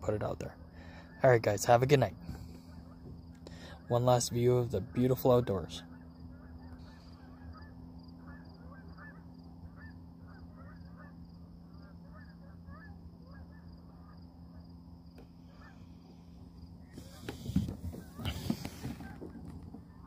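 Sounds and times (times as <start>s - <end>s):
geese honking: 0.7s - 20.0s.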